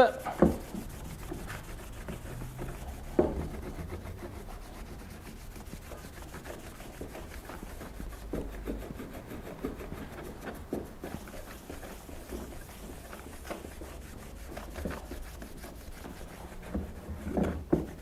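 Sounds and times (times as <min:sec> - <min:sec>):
cloth rubbing on a tray: 0:00.0 - 0:18.0.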